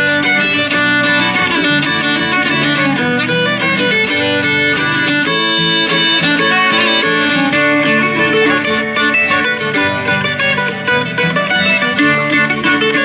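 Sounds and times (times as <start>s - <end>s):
fiddle melody: 0.0s - 13.0s
strummed acoustic guitar: 0.0s - 13.0s.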